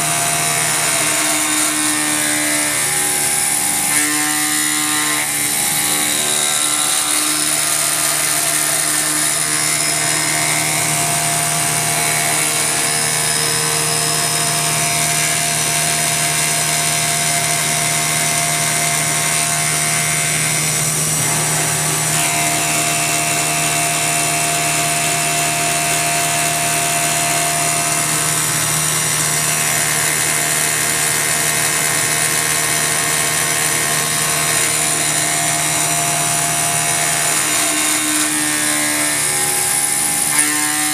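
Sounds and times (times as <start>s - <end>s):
cutter machining metal: 0.0s - 40.9s
milling machine humming: 0.0s - 40.9s.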